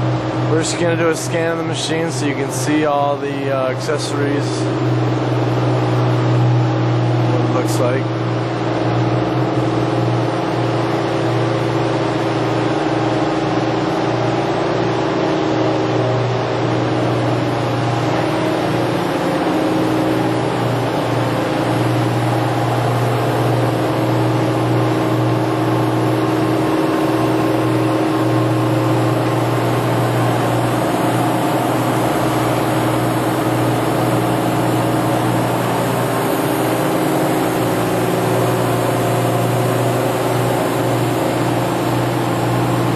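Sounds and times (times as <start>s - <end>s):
machining center mechanical hum: 0.0s - 42.9s.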